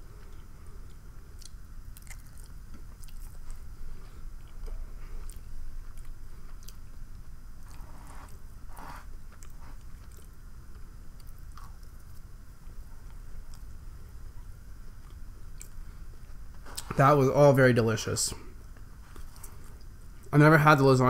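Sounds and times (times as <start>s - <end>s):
steady low hum: 0.0s - 21.0s
person chewing food: 0.1s - 13.8s, 14.4s - 17.0s, 18.6s - 20.3s.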